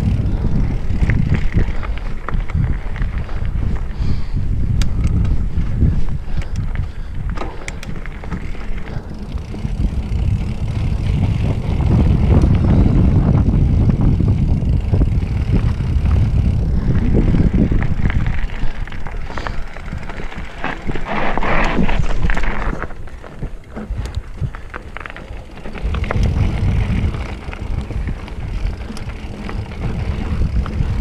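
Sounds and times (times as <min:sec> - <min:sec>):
bike rattling over bumps: 0:00.0 - 0:31.0
bike tyre rumble on dirt: 0:00.0 - 0:31.0
wind buffeting microphone: 0:00.0 - 0:31.0.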